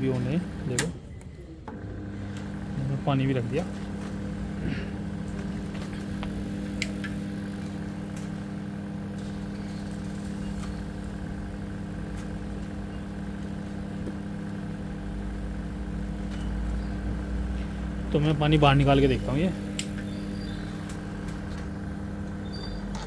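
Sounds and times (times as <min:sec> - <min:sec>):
microwave oven mains hum: 0:00.0 - 0:23.0.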